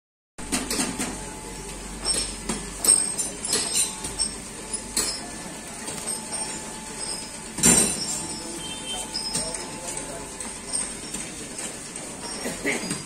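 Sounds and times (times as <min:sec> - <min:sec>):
knocks and clinks: 0:02.0 - 0:13.0.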